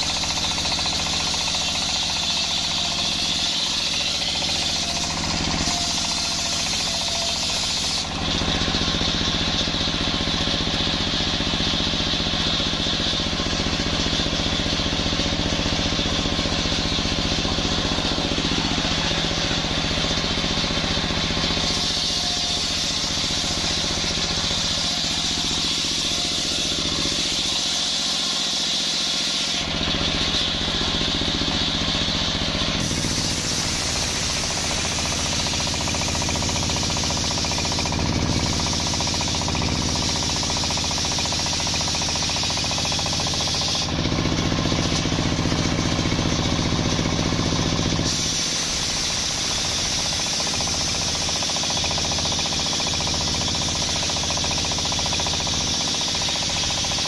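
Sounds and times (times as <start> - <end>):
circular saw blade cutting wood: 0.0 - 57.0.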